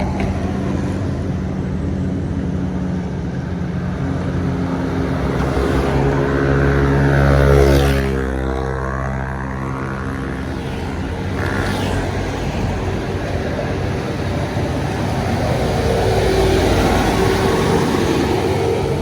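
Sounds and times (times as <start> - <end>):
trucks and buses passing: 0.0 - 19.0.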